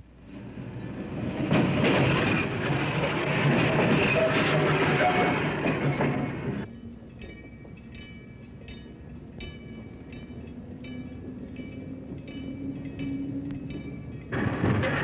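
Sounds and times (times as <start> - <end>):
electric tram humming: 0.0 - 15.0.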